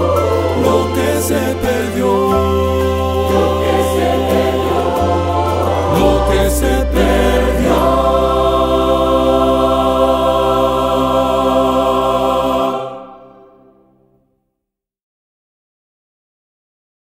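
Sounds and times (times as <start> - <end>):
instrumental accompaniment: 0.0 - 13.8
choir holding a chord: 0.0 - 14.1.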